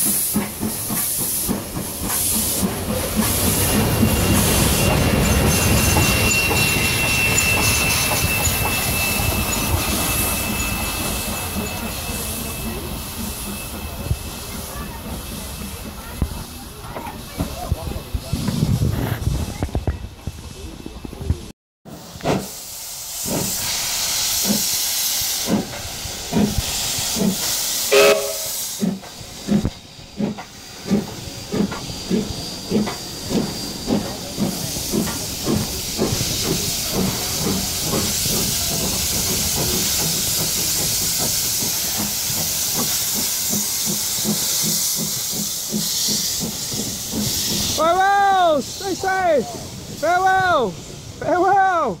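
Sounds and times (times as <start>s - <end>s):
steam locomotive exhaust chuffs: 0.0s - 51.2s
steady hiss of steam: 0.0s - 52.0s.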